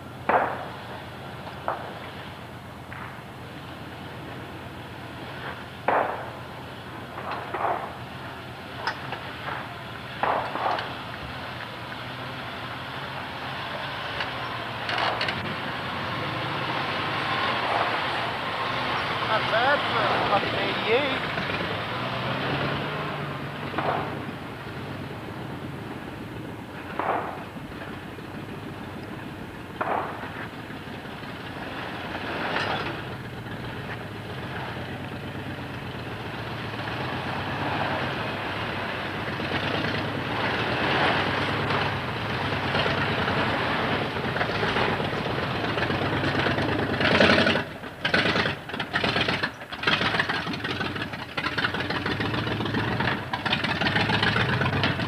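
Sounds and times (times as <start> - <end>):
off-road vehicle engines crawling: 0.0 - 55.0.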